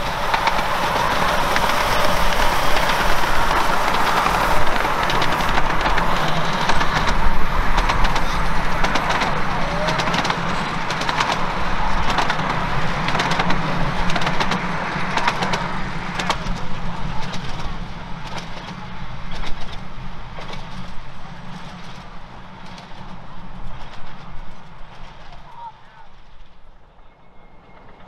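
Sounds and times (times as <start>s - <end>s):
wheels clicking: 0.0s - 26.7s
miniature train rumbling past: 0.0s - 28.0s.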